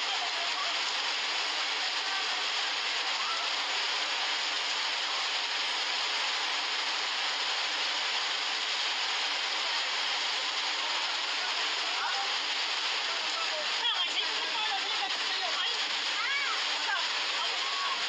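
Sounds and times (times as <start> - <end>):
muddy floodwater rushing: 0.0 - 18.0.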